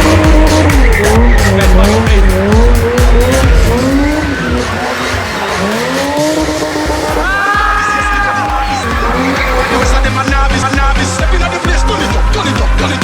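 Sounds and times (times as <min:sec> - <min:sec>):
car engine revving: 0:00.0 - 0:13.0
music with heavy bass beat: 0:00.0 - 0:13.0
tyres squealing: 0:00.0 - 0:13.0.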